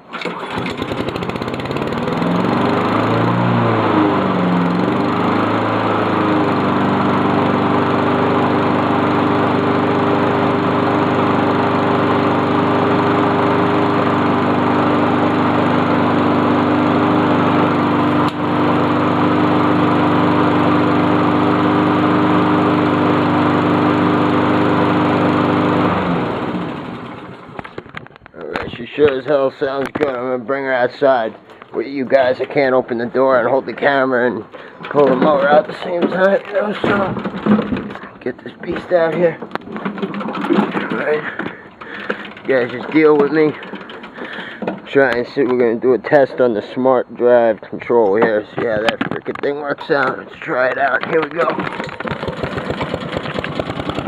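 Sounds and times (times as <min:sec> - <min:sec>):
lawn mower engine running: 0:00.0 - 0:28.2, 0:28.8 - 0:54.0.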